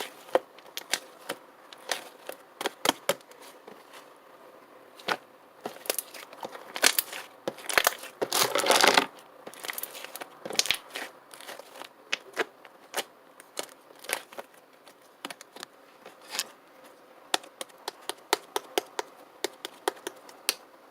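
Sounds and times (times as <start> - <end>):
crinkling rustle: 0.0 - 4.2, 4.9 - 18.2.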